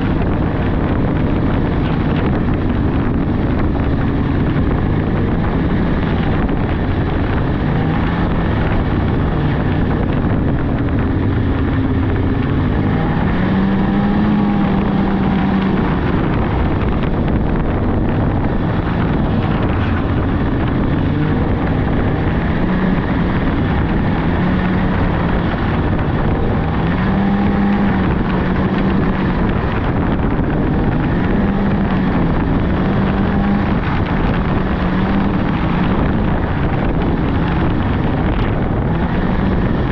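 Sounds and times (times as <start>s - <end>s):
snowmobile engine: 0.0s - 39.9s
wind buffeting microphone: 0.0s - 39.9s.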